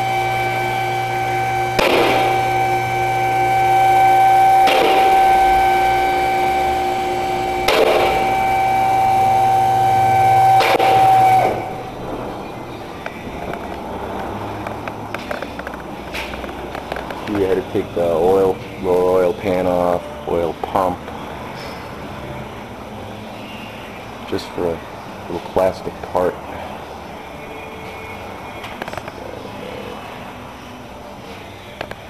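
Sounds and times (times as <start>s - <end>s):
machine whine and low hum: 0.0s - 32.0s.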